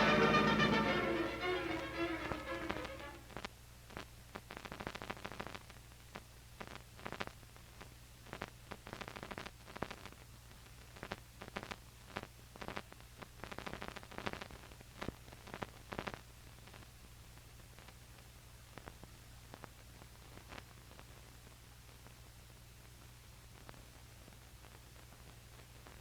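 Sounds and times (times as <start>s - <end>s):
record crackle and clicks: 0.0s - 26.0s.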